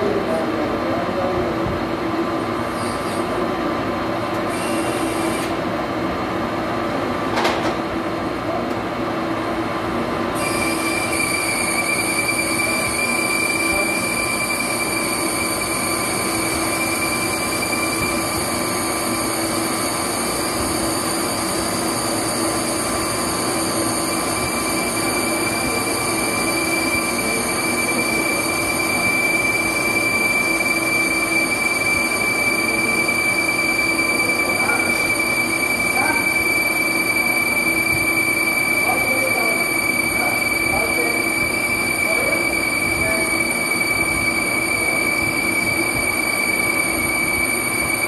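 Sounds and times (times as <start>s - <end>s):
metal lathe running: 2.2s - 6.0s, 10.0s - 48.0s.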